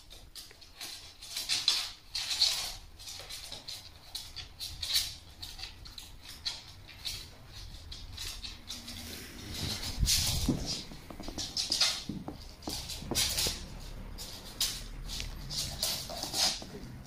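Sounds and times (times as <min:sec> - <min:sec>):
dog claws clicking on wooden floor: 0:00.0 - 0:17.0.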